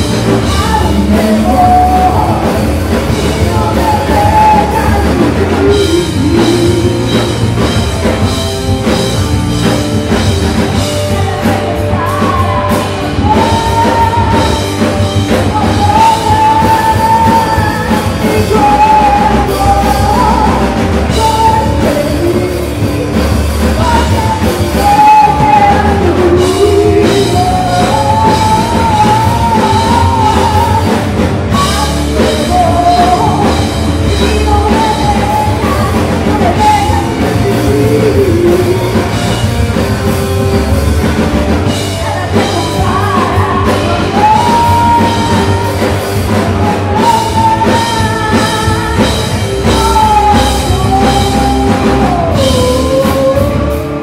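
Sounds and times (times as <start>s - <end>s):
woman singing: 0.0s - 40.2s, 41.6s - 54.0s
bass guitar: 0.0s - 54.0s
drum kit: 0.0s - 54.0s
electric guitar: 0.0s - 54.0s.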